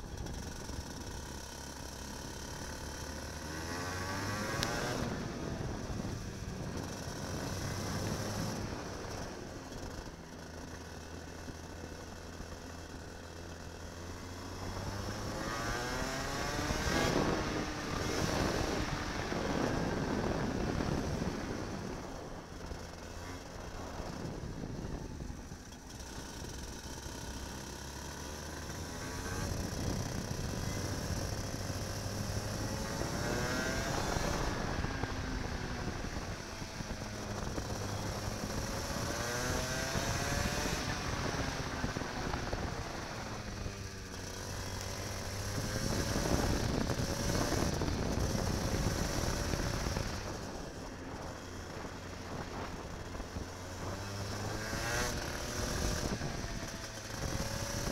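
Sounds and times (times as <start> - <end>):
racing kart engine revving: 0.2 - 10.5, 13.3 - 21.9, 25.6 - 57.9.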